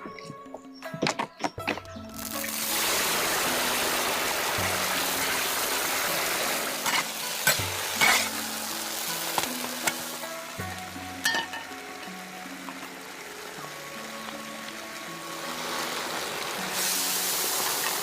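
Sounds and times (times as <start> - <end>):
food sizzling in hot oil: 2.0 - 18.0.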